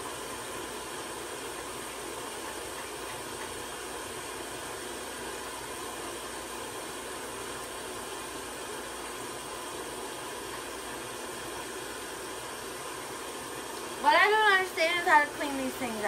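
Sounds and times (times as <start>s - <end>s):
room noise hiss: 0.0s - 16.0s.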